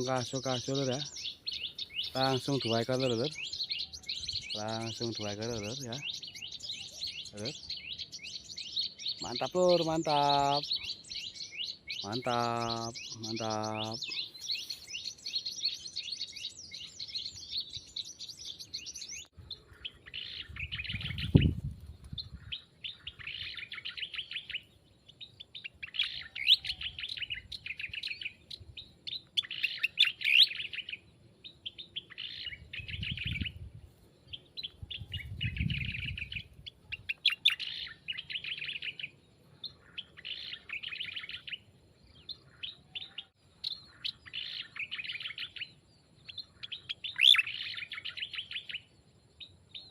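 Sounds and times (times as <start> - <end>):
songbirds twittering: 0.0 - 49.9.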